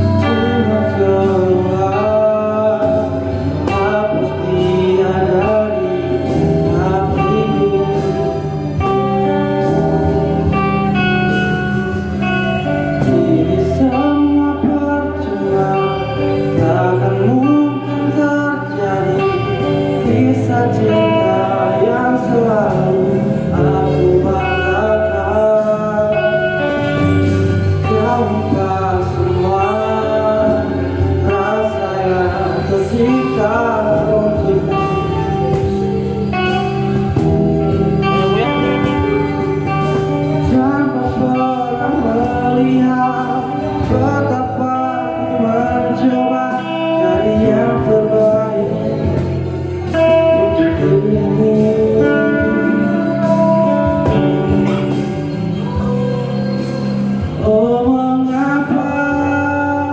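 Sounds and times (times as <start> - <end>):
instrumental music backing: 0.0 - 59.9
person singing pop song: 0.0 - 59.9.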